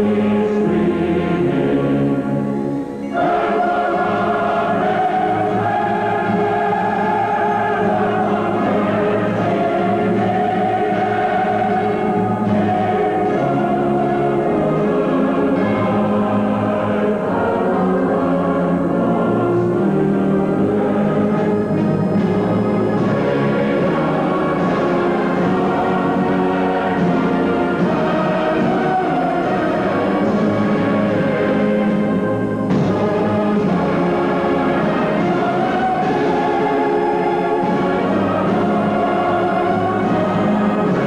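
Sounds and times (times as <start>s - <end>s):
choir singing: 0.0s - 41.0s
orchestral accompaniment: 0.0s - 41.0s.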